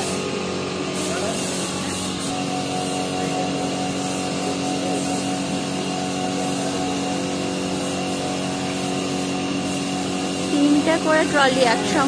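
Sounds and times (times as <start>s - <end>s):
ropeway machinery humming: 0.0s - 12.0s.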